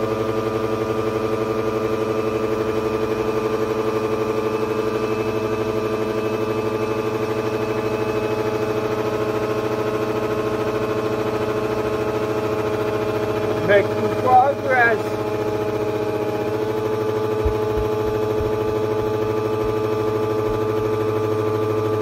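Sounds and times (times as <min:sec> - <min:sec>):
blender motor running: 0:00.0 - 0:22.0.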